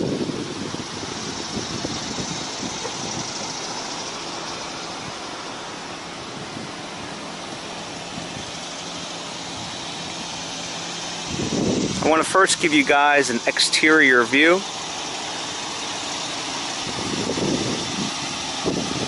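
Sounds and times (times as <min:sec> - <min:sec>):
car engine idling: 0:00.0 - 0:19.0
outdoor hiss: 0:00.9 - 0:19.0.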